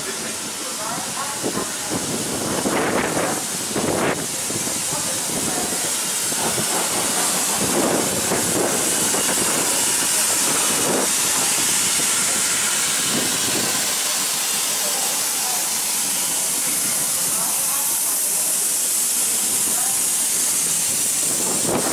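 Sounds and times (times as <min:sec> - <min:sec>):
steam locomotive hissing steam: 0:00.0 - 0:21.9.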